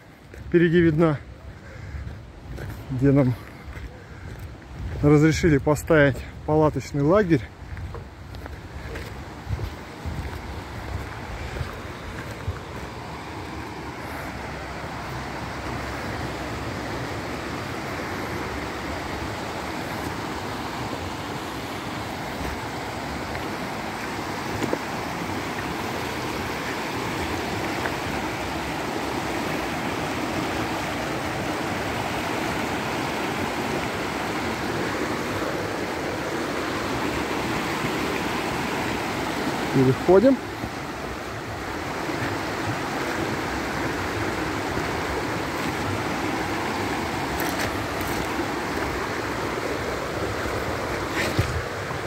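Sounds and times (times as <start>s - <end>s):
mountain stream rushing: 0.0s - 52.0s.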